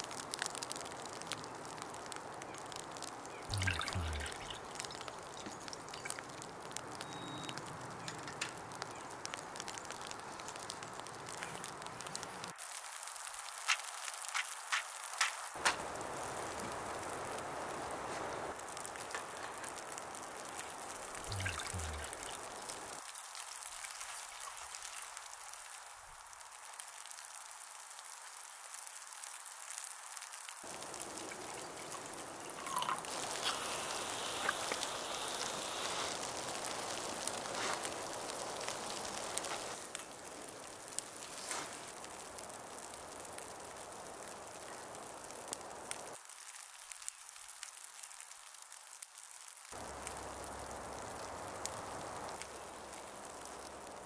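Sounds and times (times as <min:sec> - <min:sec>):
rain patter and dripping: 0:00.0 - 0:54.0.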